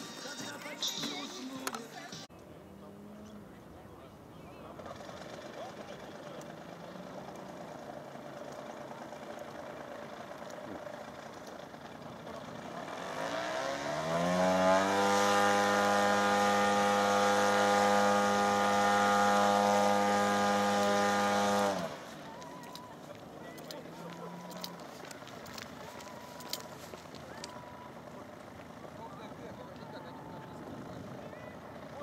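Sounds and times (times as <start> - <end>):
model plane engine and propeller: 2.6 - 32.0.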